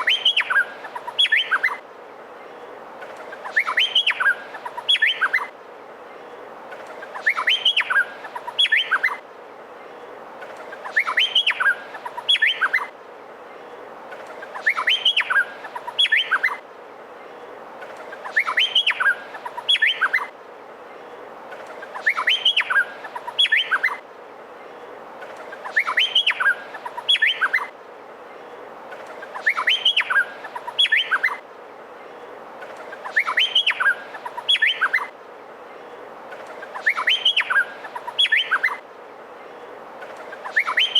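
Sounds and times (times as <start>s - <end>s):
steady low hiss: 0.0s - 40.9s.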